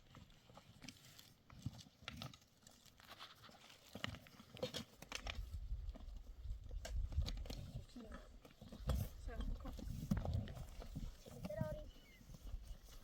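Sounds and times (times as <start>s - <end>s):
horse hooves clopping: 0.0s - 13.0s.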